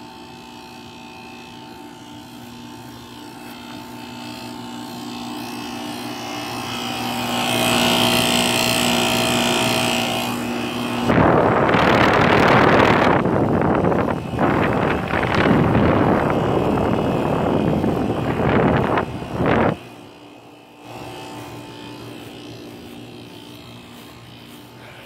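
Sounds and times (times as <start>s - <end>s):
air conditioner compressor hum: 0.0s - 25.0s
fan air rushing onto microphone: 0.0s - 25.0s.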